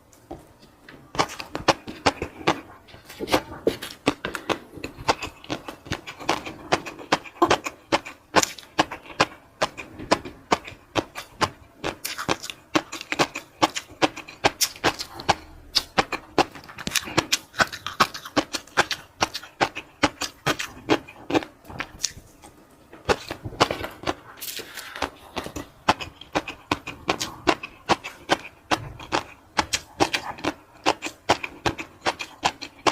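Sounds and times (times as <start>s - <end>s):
chewing and mouth sounds: 0.6s - 32.9s.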